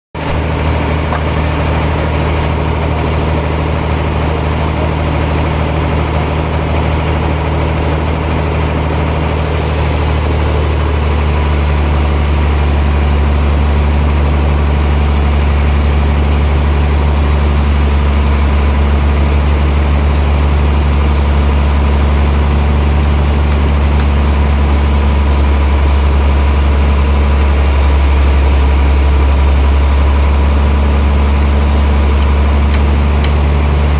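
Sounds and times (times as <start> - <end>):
heavy sawmill machinery running: 0.2 - 33.9.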